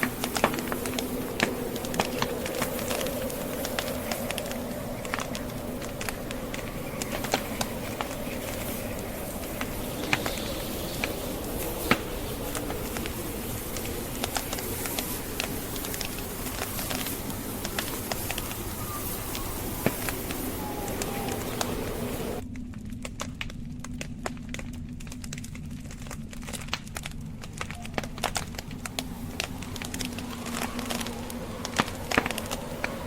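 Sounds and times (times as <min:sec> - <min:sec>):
blizzard wind: 0:00.0 - 0:33.0
wood fire crackling and popping: 0:00.0 - 0:33.0.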